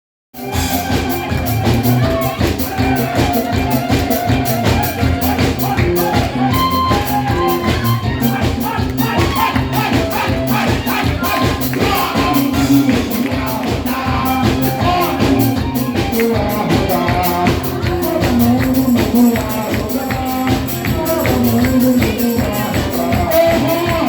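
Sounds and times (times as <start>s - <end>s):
live band playing: 0.3s - 24.0s
quick percussion beat: 0.4s - 24.0s.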